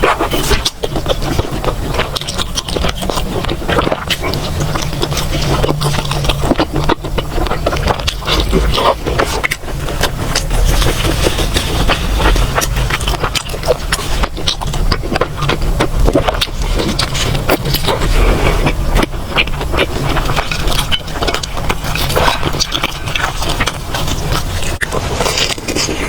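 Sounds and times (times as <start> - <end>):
chewing and mouth noises: 0.0 - 26.0
low steady rumble: 0.0 - 26.0
sharp wet clicks and crackles: 0.0 - 26.0.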